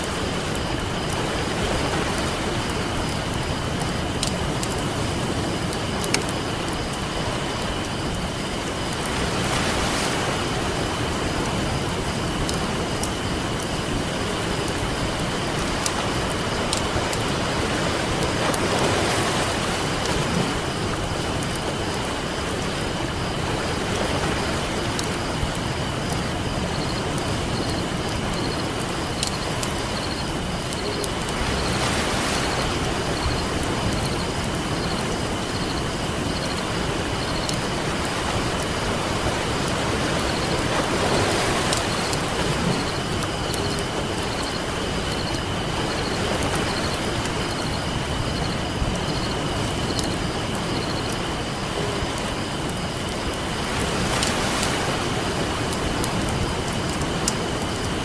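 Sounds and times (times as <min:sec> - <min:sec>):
campfire crackling: 0:00.0 - 0:58.0
ocean surf: 0:00.0 - 0:58.0.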